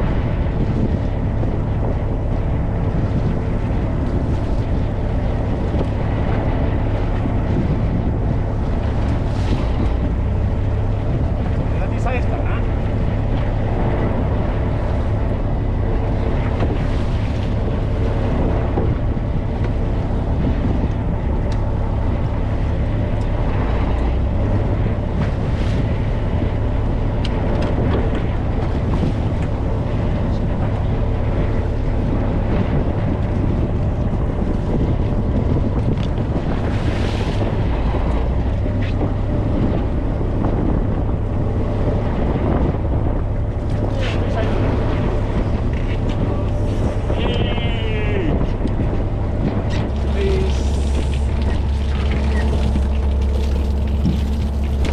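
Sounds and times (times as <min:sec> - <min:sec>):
water rushing: 0:00.0 - 0:33.2, 0:41.0 - 0:54.9
boat engine droning: 0:00.0 - 0:54.9
wind buffeting microphone: 0:00.0 - 0:54.9.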